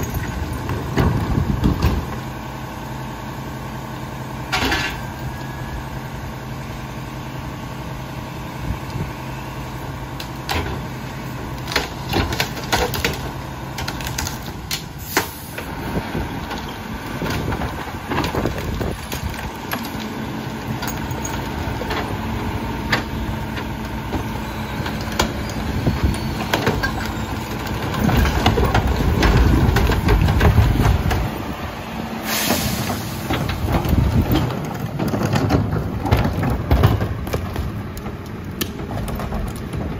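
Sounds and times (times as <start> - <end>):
trash carts banging against hopper: 0.0 - 2.3, 4.5 - 5.2, 10.2 - 31.6, 32.2 - 39.9
trash dumping: 0.0 - 2.3, 4.4 - 5.4, 10.2 - 39.9.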